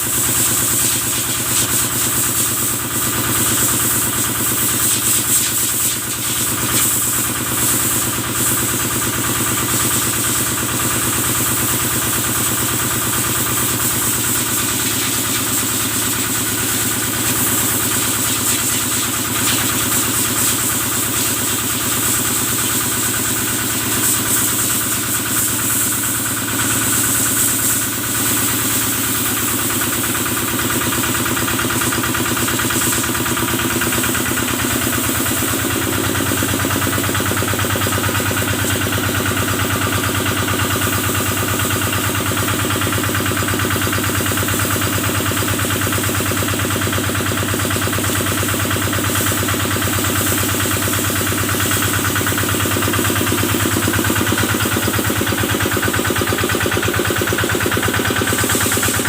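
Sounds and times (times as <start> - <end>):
stationary engine running: 0.0 - 59.0
water spray hissing: 0.0 - 59.0.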